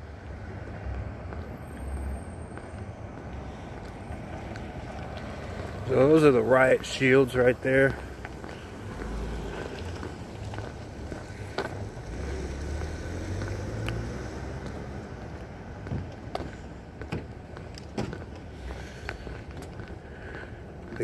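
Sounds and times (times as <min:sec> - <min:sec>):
engine and tyre rumble: 0:00.0 - 0:21.0.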